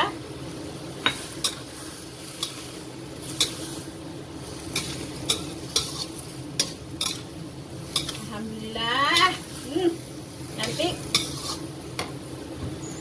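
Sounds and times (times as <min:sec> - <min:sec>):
low sizzle of pan: 0:00.0 - 0:13.0.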